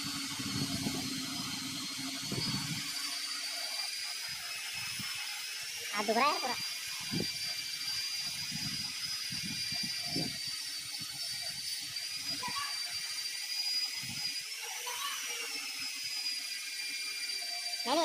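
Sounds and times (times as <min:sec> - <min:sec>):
electric drill whining: 0:00.0 - 0:18.0.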